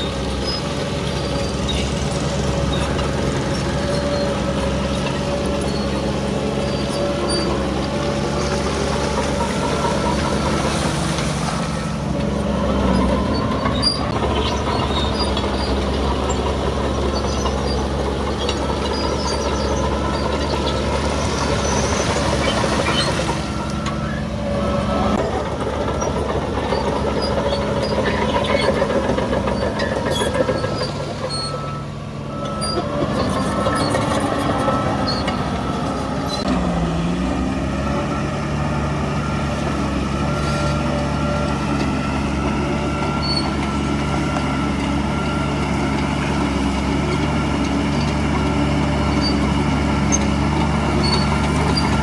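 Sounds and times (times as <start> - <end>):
heavy diesel machinery running: 0.0 - 52.0.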